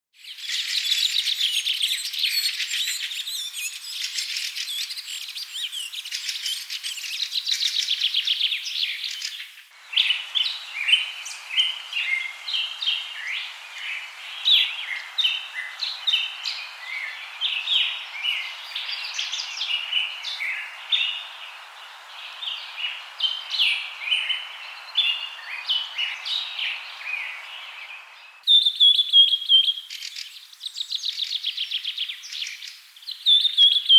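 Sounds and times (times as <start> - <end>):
birds chirping and trilling: 0.2 - 33.9
short repeated bird chirps: 0.2 - 33.9
steady hiss: 0.4 - 28.5.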